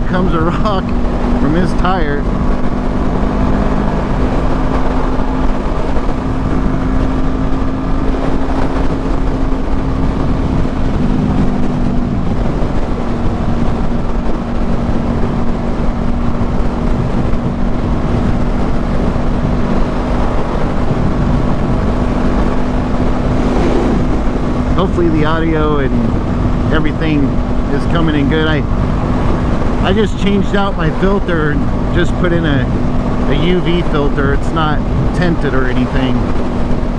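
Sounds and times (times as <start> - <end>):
motorcycle engine cruising: 0.0 - 36.9
wind rushing over microphone: 0.0 - 36.9.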